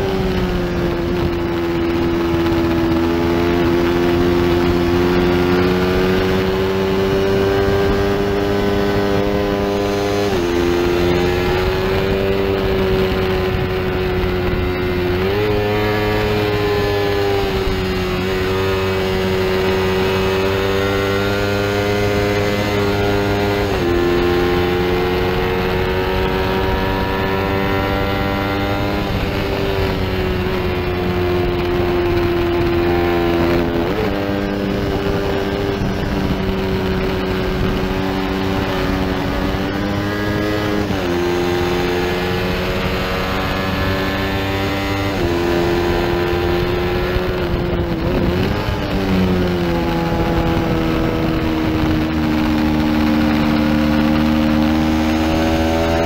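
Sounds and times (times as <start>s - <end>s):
motorcycle engine at race pace: 0.0s - 56.0s
rushing wind: 0.0s - 56.0s.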